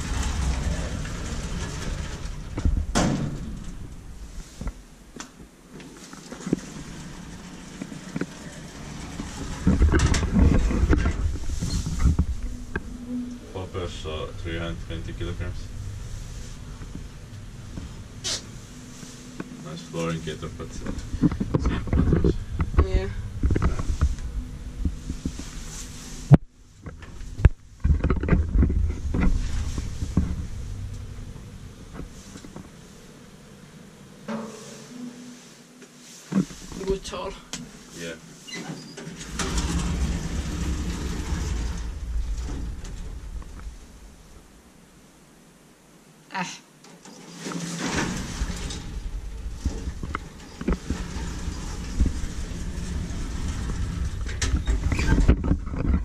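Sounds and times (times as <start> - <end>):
elevator rumbling with clunks: 0.0 - 5.2, 6.2 - 35.2, 38.5 - 44.9, 47.0 - 56.0.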